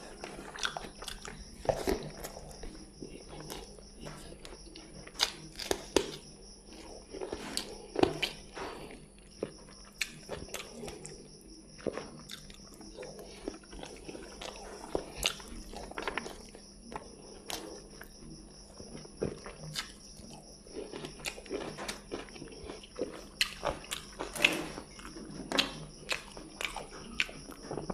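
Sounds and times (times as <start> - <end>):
person chewing and lip smacking: 0.1 - 27.9.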